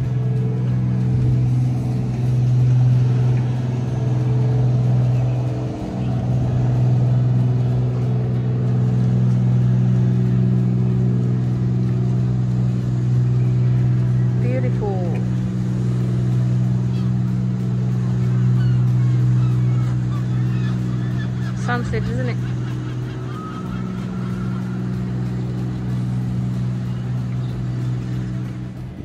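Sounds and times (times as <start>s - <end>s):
motor humming low: 0.0s - 29.0s.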